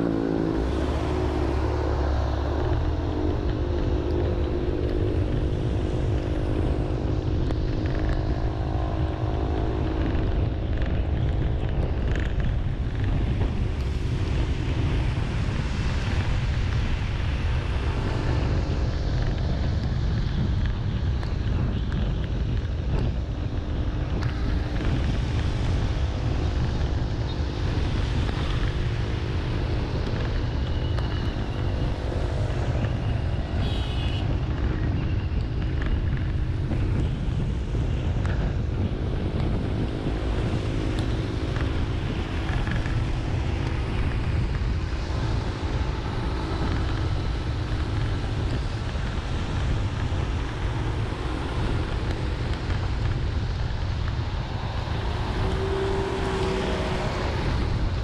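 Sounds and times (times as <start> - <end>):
vehicle driving rumble: 0.0 - 58.0
wind buffeting microphone: 0.0 - 58.0.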